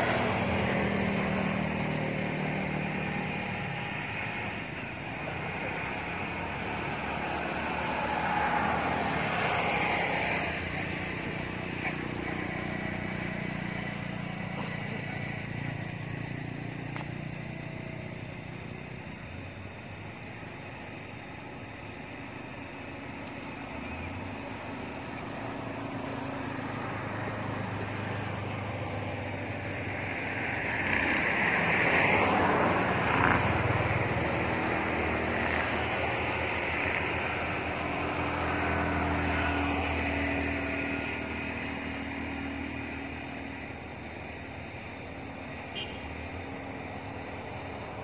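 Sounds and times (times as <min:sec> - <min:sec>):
vehicle passing: 0:00.0 - 0:21.1, 0:22.0 - 0:48.0
vehicle engine humming: 0:00.0 - 0:48.0.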